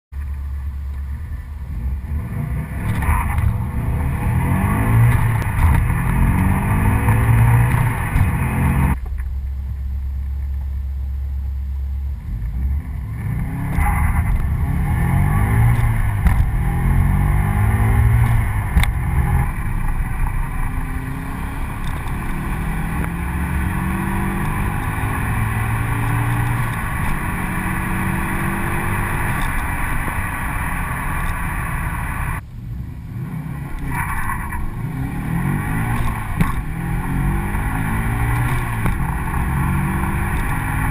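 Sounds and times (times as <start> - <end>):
car engine revving hard: 1.7 - 9.0, 12.5 - 40.9.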